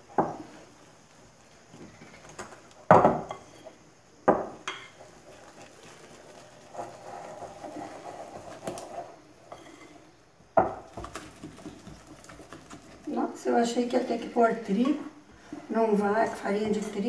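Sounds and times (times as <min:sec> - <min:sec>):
batter mixing rustle: 0:00.0 - 0:03.9, 0:04.5 - 0:17.0.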